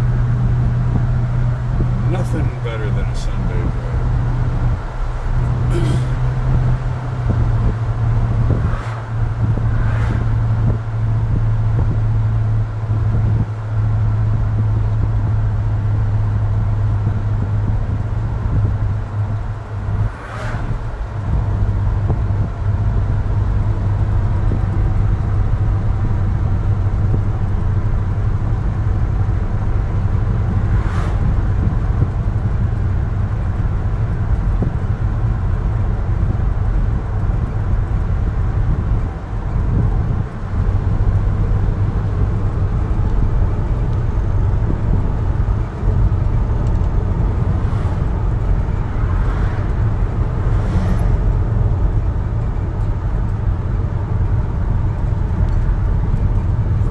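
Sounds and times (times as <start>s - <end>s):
engine drone from inside cab: 0.0s - 56.9s
road noise: 0.0s - 56.9s.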